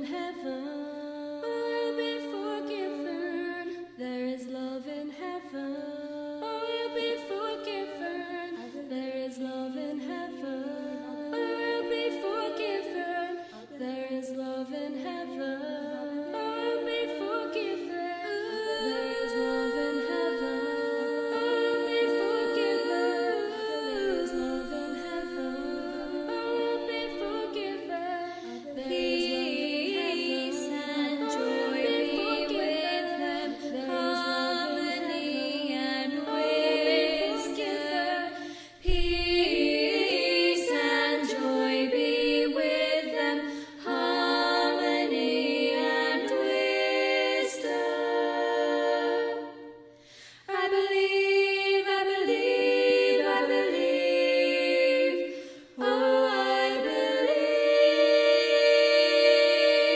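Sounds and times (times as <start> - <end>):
women singing a cappella: 0.0 - 59.9.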